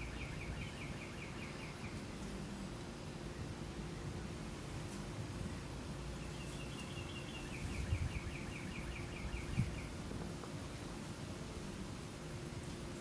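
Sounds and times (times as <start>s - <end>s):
songbird singing repeated notes: 0.0s - 13.0s
steady low hum: 0.0s - 13.0s.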